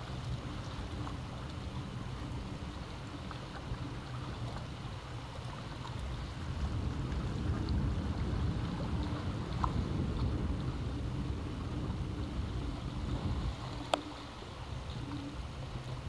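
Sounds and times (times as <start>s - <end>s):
sea waves washing against rocks: 0.0s - 16.0s.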